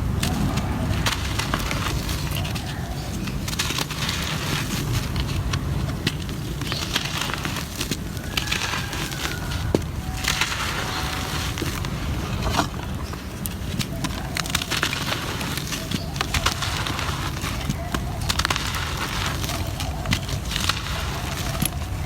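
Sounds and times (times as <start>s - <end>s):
cement chunks crunching: 0.0s - 22.0s.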